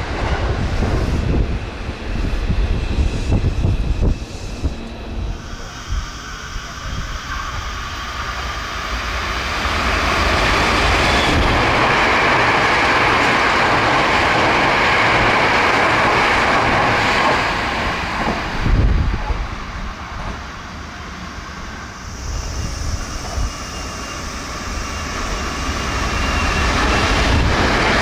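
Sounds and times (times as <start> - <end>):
electric train passing at high speed: 0.0 - 28.0.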